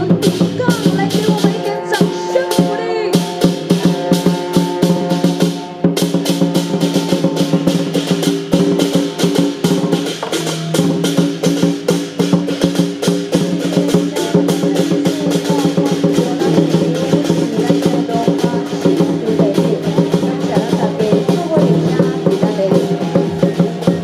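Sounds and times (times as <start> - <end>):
barrel drum beating: 0.0 - 24.0
hand cymbals clashing: 0.0 - 24.0.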